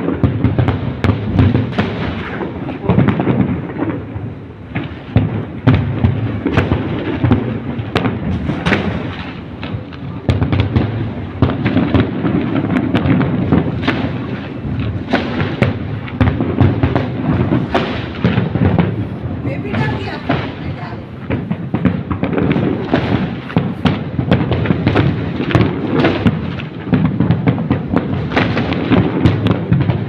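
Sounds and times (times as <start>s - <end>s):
fireworks bangs and crackles: 0.0s - 30.0s
low rumble of explosions: 0.0s - 30.0s.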